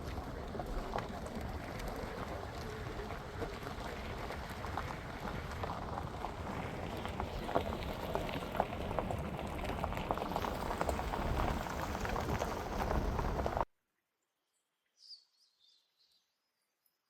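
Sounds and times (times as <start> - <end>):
rain pattering: 0.0 - 13.7.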